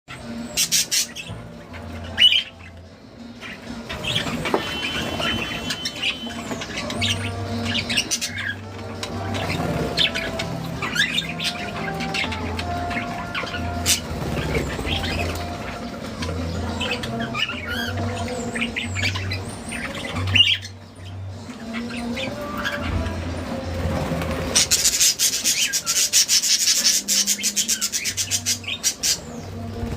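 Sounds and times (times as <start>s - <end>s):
lovebirds squawking and chirping: 0.1s - 29.9s.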